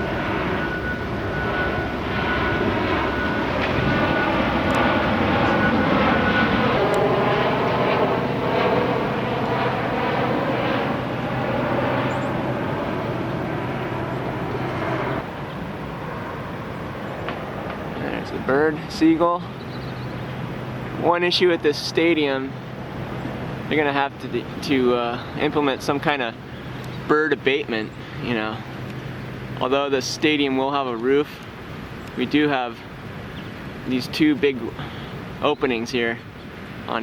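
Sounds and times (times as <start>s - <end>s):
jet airplane flying over: 0.0s - 37.0s.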